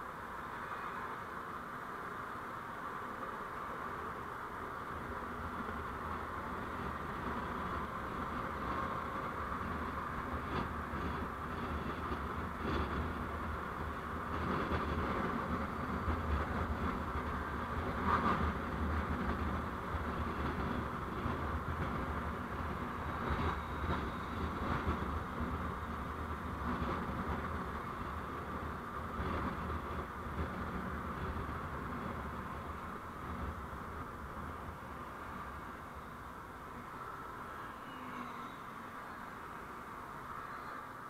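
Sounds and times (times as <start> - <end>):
vehicle road and engine noise: 0.0 - 41.0.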